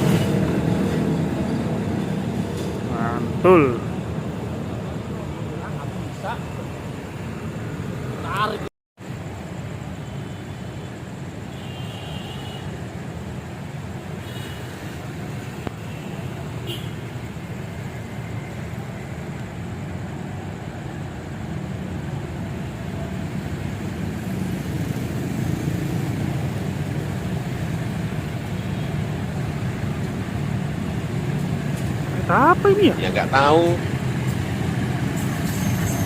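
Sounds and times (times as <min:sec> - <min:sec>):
low rumble of vehicle noise: 0:00.0 - 0:36.0.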